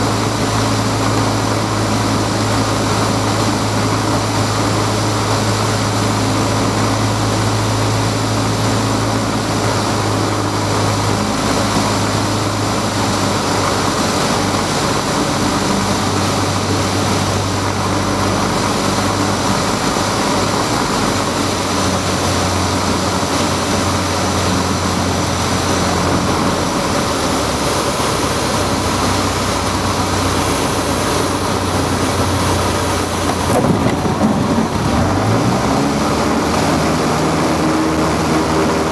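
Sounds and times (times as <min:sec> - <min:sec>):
aircraft engine and propeller droning: 0:00.0 - 0:38.9
airflow noise: 0:00.0 - 0:38.9.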